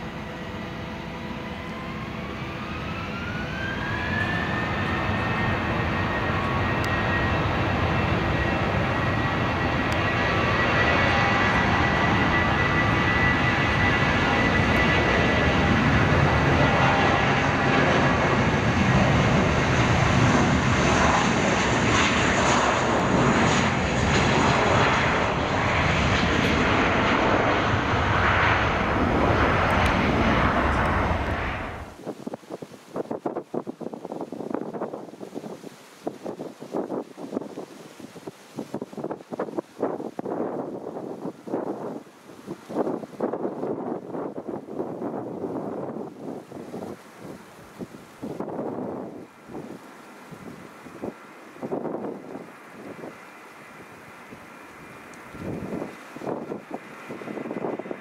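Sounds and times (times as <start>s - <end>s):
jet engines spooling up: 0.1s - 32.4s, 38.2s - 58.0s.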